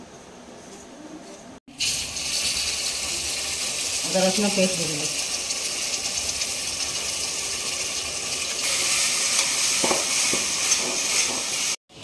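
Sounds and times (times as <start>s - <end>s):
paste sizzling in hot oil: 1.7s - 11.8s.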